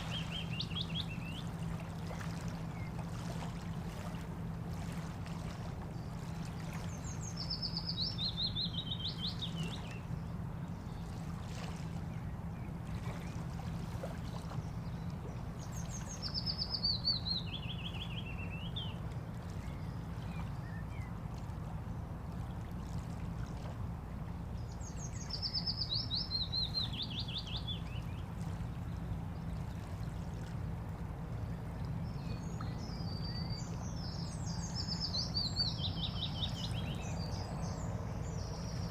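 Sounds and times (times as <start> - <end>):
low rumble of water: 0.0 - 38.9.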